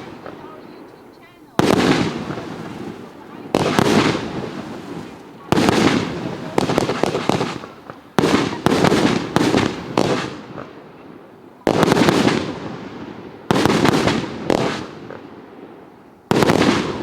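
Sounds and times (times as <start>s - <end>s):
firework shots banging: 0.0s - 17.0s.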